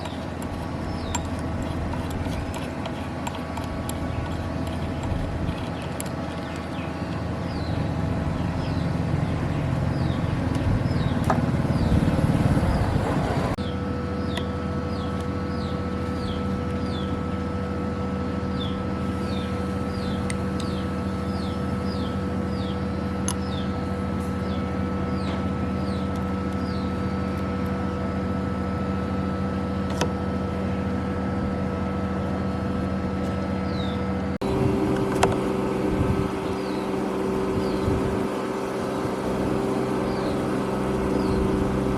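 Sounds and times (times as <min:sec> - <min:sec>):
machine humming: 0:00.0 - 0:41.9.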